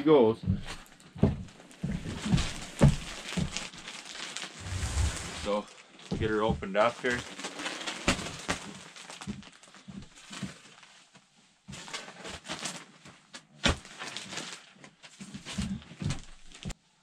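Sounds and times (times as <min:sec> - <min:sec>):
plastic crinkling and rustling: 0:00.8 - 0:16.8.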